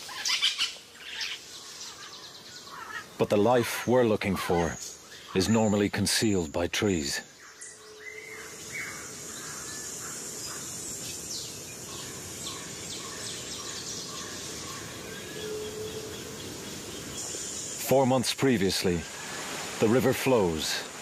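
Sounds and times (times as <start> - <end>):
high insect hum: 0.0 - 21.0.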